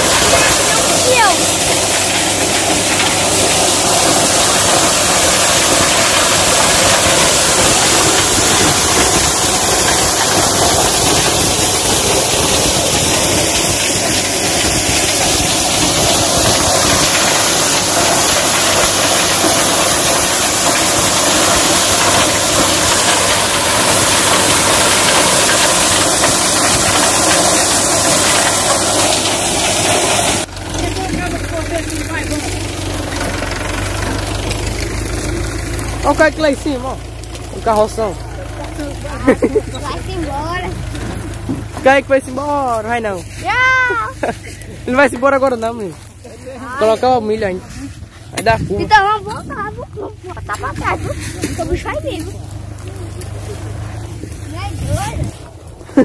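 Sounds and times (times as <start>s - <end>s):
thresher mechanical clatter: 0.0s - 56.0s
tractor engine hum: 0.0s - 56.0s.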